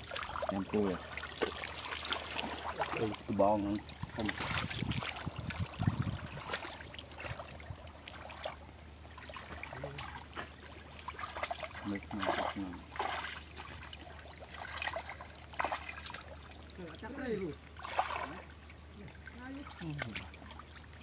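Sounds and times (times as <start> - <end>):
muddy water sloshing and splashing: 0.0 - 21.0
trickling water: 0.0 - 21.0.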